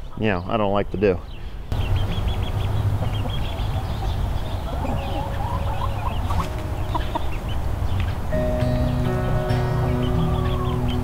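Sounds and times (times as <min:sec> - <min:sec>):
chicks peeping: 0:00.2 - 0:11.0
chickens clucking: 0:01.0 - 0:11.0.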